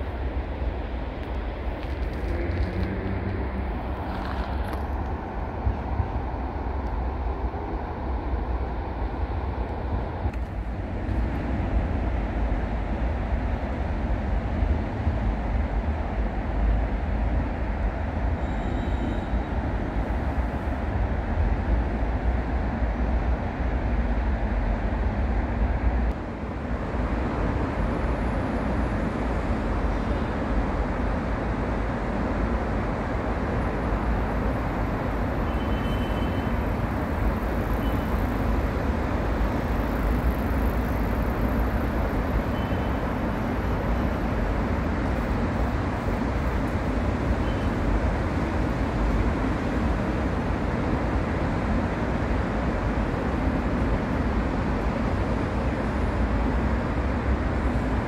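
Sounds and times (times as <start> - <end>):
distant road traffic rumble: 0.0 - 58.0.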